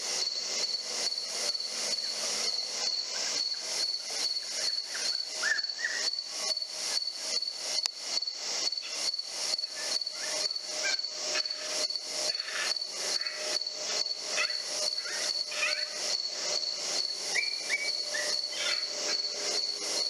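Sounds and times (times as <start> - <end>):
crickets and insects trilling: 0.0 - 20.0
short insect chirps: 0.2 - 20.0.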